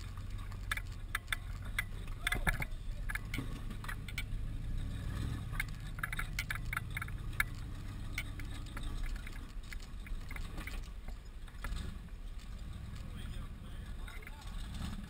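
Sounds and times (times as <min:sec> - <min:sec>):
off-road engine rumbling: 0:00.0 - 0:15.0
rock clicking under tyres: 0:00.0 - 0:15.0.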